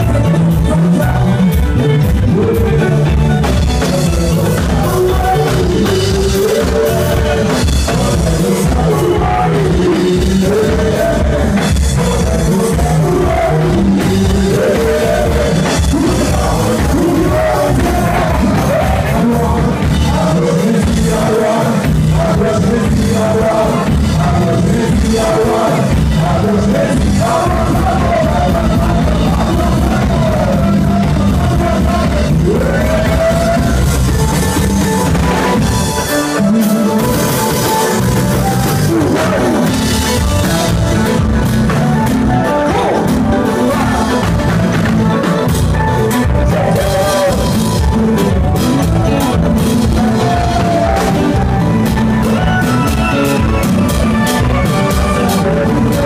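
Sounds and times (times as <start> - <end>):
drum kit dance beat: 0.0 - 56.0
electric guitar: 0.0 - 56.0
man singing: 0.0 - 56.0.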